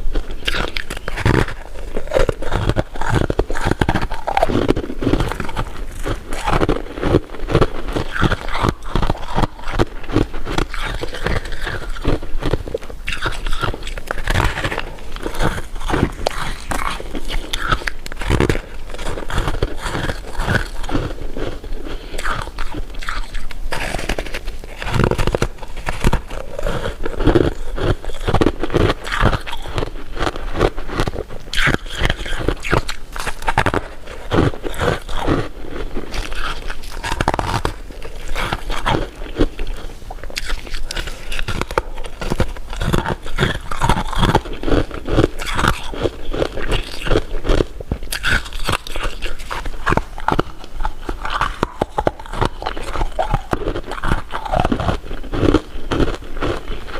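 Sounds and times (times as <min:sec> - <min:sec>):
crunching and chewing candy: 0:00.0 - 0:56.9.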